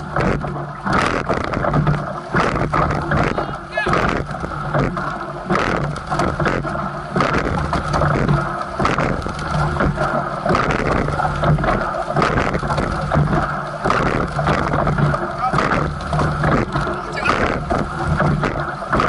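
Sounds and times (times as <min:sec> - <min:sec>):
oars knocking: 0:00.0 - 0:19.0
water rushing along hull: 0:00.0 - 0:19.0.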